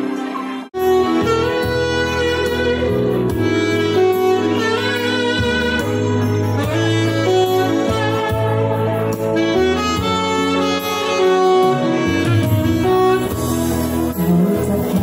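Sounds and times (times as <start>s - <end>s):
keyboard backing with bass: 0.0s - 15.0s
saxophone playing slow melody: 0.8s - 15.0s.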